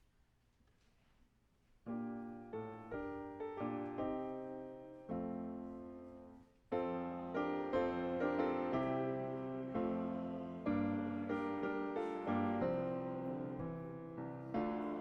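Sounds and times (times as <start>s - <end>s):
piano playing slow chords: 1.9s - 15.0s.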